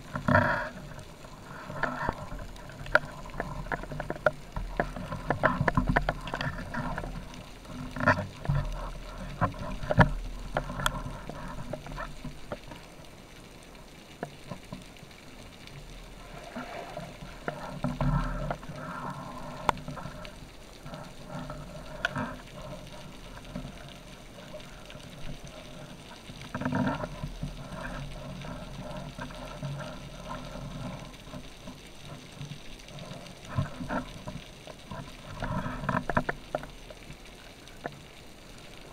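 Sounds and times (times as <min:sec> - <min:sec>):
muffled water sloshing underwater: 0:00.0 - 0:38.9.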